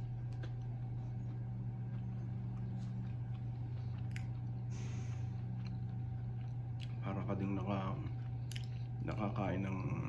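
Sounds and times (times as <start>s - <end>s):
man chewing soft food: 0.0s - 10.0s
steady low hum: 0.0s - 10.0s.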